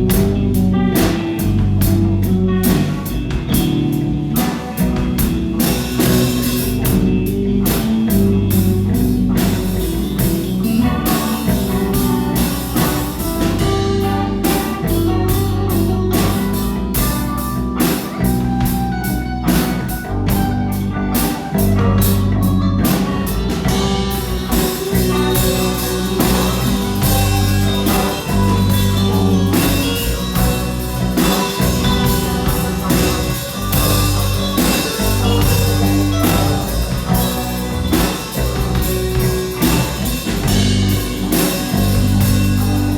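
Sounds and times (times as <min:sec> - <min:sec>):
drum kit beat: 0:00.0 - 0:42.9
rock band playing: 0:00.0 - 0:42.9.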